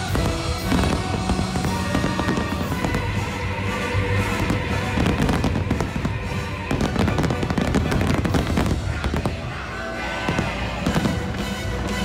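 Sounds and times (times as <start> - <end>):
fireworks bursting and crackling: 0.0 - 12.0
music: 0.0 - 12.0.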